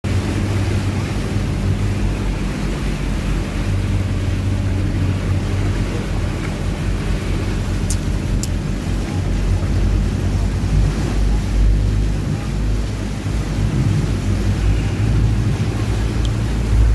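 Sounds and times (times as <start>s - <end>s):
boat engine humming: 0.0s - 16.9s
rushing water: 0.0s - 16.9s.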